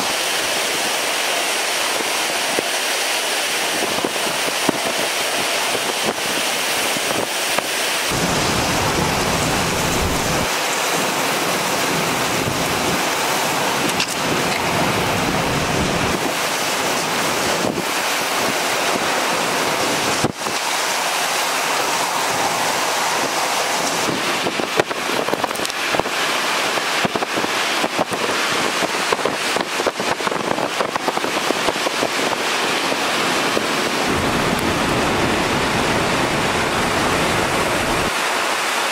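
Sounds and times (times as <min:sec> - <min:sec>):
wind and driving rain: 0:00.0 - 0:38.9
gusts buffeting microphone: 0:03.7 - 0:38.2.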